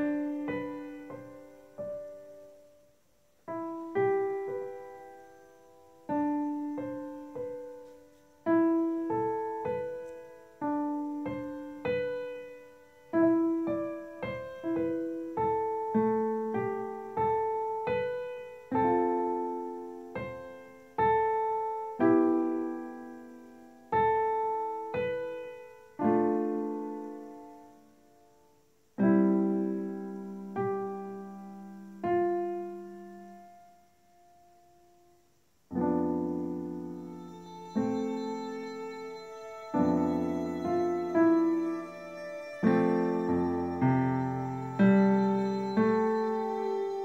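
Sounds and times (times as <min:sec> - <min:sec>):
gentle piano melody: 0:00.0 - 0:47.0.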